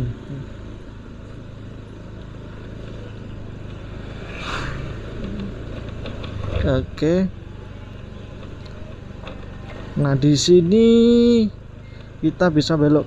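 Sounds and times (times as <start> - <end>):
motorbike and street traffic rumble: 0.0 - 13.0.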